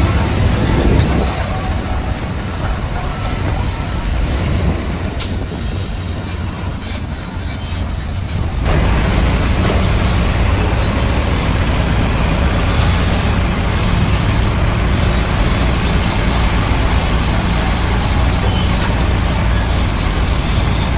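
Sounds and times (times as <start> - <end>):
bulldozer diesel engine rumbling: 0.0 - 20.9
crawler tracks squealing: 0.0 - 20.9.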